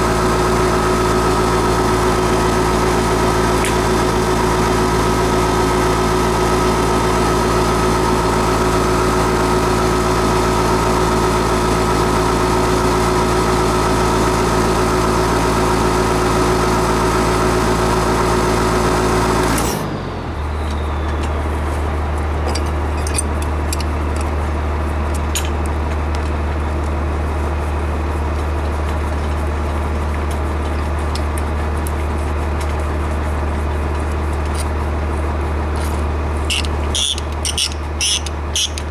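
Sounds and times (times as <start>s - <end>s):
motor hum: 0.0s - 38.9s.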